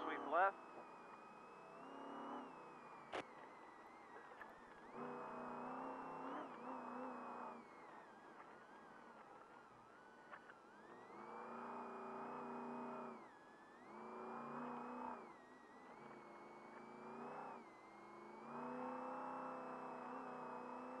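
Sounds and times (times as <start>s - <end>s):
race engine revving: 0.0s - 8.5s, 9.1s - 21.0s.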